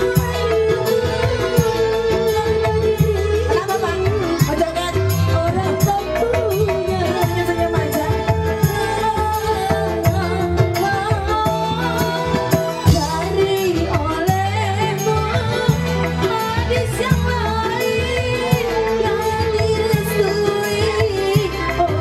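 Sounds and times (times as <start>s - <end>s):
band with keyboard and hand drums: 0.0s - 22.0s
woman singing into a microphone: 0.0s - 22.0s.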